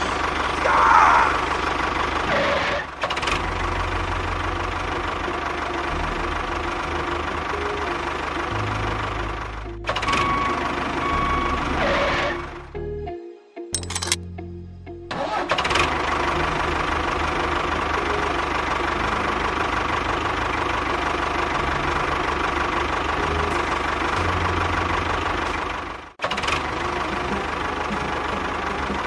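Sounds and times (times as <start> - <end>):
engine running with rapid knocking: 0.0 - 12.2, 15.3 - 29.0.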